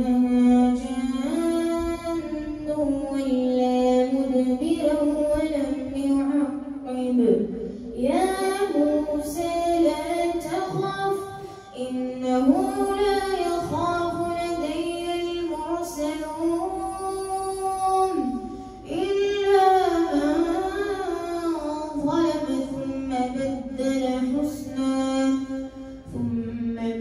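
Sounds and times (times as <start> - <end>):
boy chanting through loudspeaker: 0.0 - 27.0.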